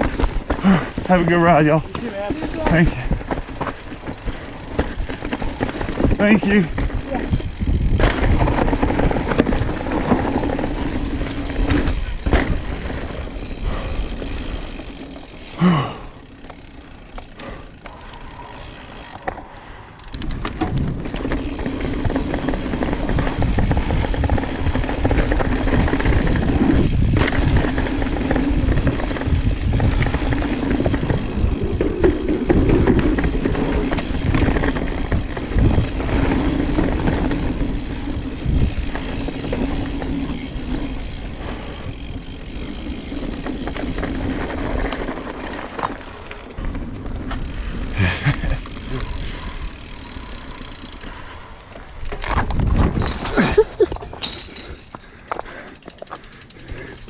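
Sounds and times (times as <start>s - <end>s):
bike clattering over bumps: 0.0s - 57.0s.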